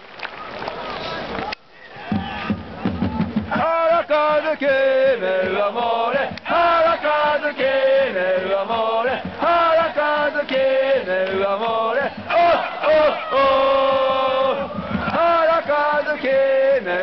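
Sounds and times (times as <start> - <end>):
crowd chanting in unison: 2.0 - 17.0.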